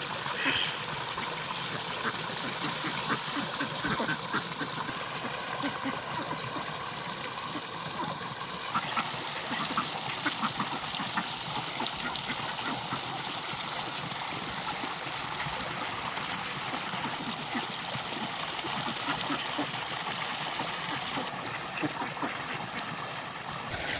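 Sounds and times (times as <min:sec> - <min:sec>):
water trickling: 0:00.0 - 0:23.9
ducks splashing in water: 0:00.3 - 0:23.1, 0:23.7 - 0:23.9.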